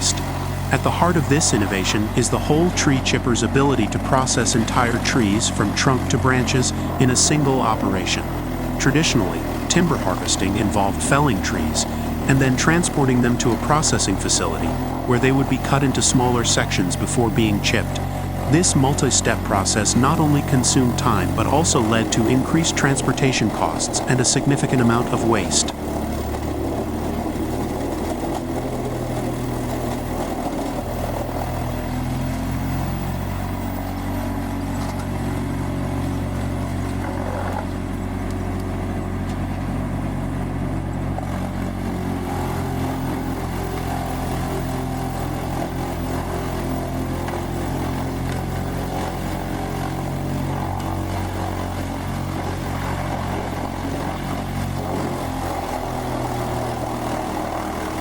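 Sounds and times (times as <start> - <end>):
tree chipper engine droning: 0.0 - 58.0.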